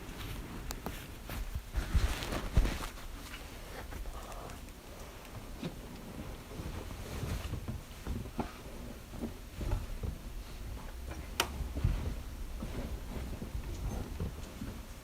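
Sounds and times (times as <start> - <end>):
low room rumble: 0.0 - 15.0
soft knocks and rustles: 0.0 - 15.0.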